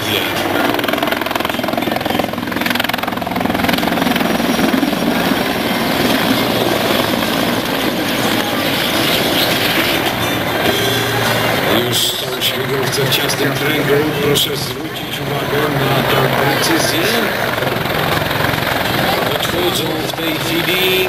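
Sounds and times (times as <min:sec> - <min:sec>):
helicopters flying overhead: 0:00.0 - 0:21.0.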